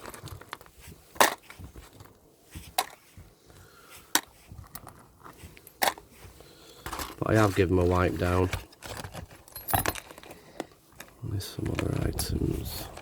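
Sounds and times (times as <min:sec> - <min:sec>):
faint rustling: 0:00.0 - 0:13.0.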